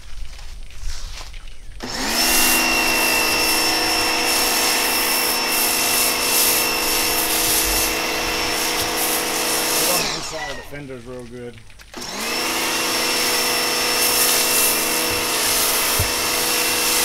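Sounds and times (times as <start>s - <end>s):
foam spray hissing: 0.8s - 10.9s, 12.0s - 17.0s
pressure washer running: 1.8s - 11.0s, 11.9s - 17.0s.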